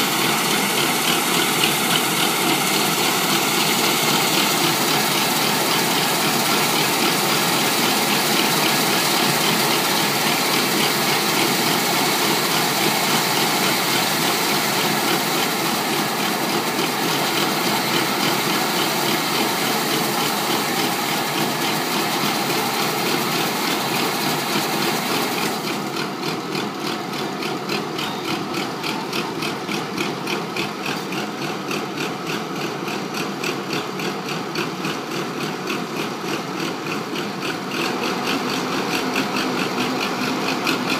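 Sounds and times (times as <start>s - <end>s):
combine harvester engine running: 0.0s - 40.9s.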